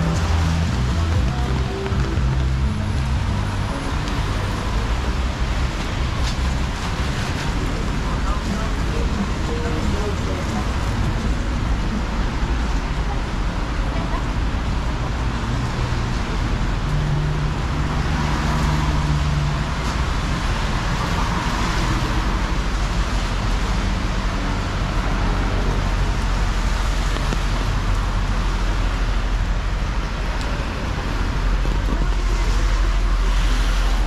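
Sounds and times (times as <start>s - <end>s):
low engine hum: 0.0s - 34.0s
traffic on wet roads: 0.0s - 34.0s.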